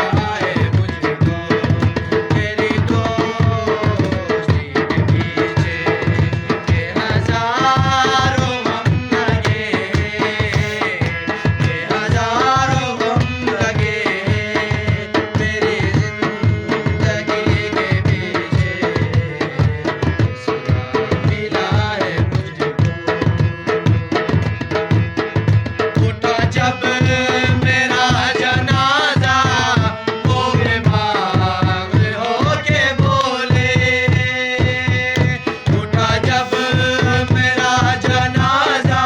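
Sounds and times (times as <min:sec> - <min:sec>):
tabla playing brisk rhythm: 0:00.0 - 0:39.0.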